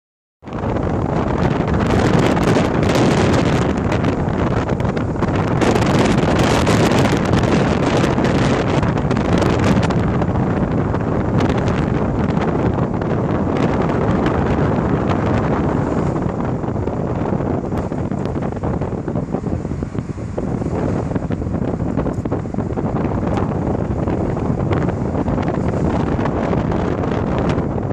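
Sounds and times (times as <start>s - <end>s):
car road noise: 0.4s - 27.9s
wind buffeting microphone: 0.4s - 27.9s.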